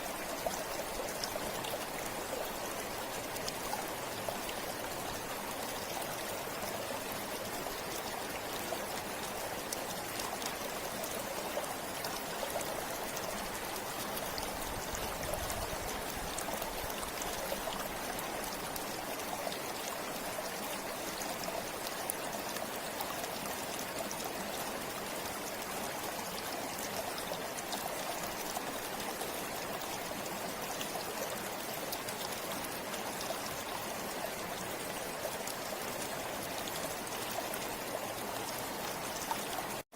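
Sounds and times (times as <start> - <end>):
small splashes and trickles: 0.0 - 39.9.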